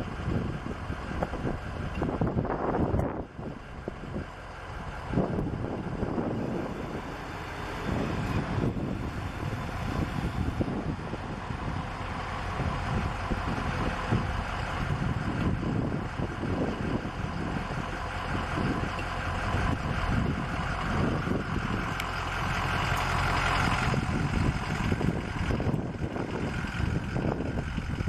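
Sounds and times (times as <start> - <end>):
truck engine idling: 0.0 - 28.0
wind buffeting microphone: 0.0 - 28.0.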